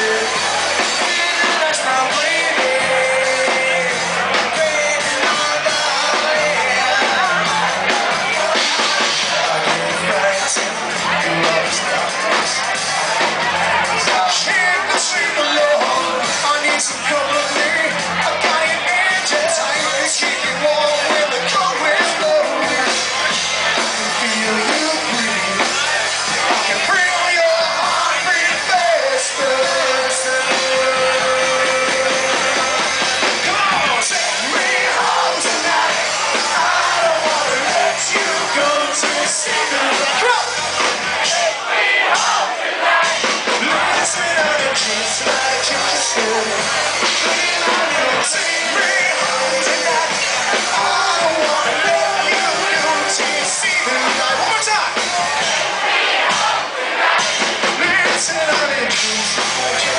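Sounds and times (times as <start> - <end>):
male singer: 0.0 - 55.1, 57.6 - 59.9
bass guitar: 0.0 - 56.5, 57.1 - 59.9
drums: 0.0 - 59.9.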